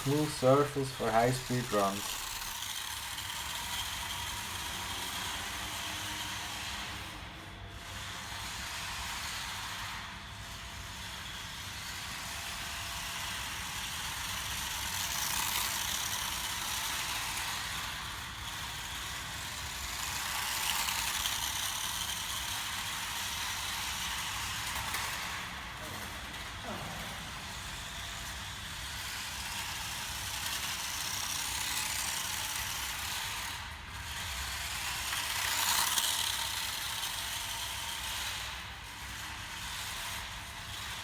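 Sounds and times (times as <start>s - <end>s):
small rc cars hissing past: 0.0s - 41.0s.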